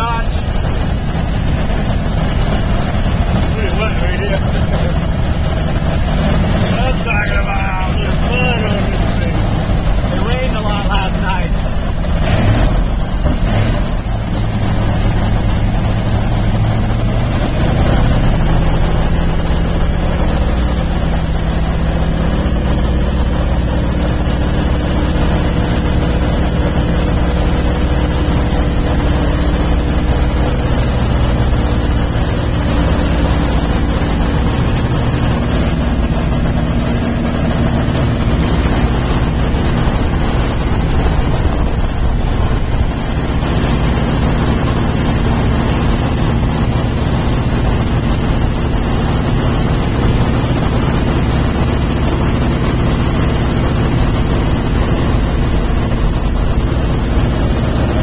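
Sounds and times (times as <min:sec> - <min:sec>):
aircraft engine and propeller: 0:00.0 - 0:58.0.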